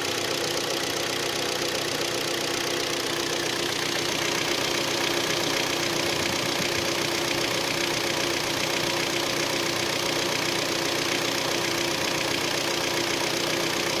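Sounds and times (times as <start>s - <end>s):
car engine idling with knock: 0.0s - 14.0s.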